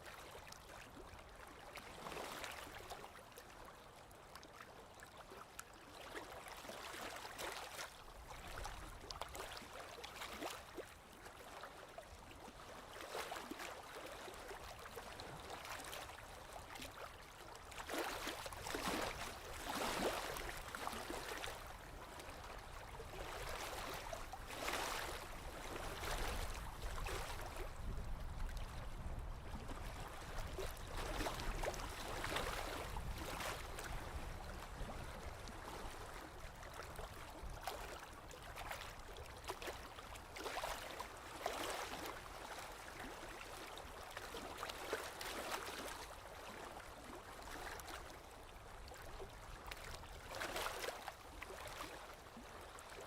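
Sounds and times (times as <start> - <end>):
small waves lapping on shore: 0.0 - 53.0.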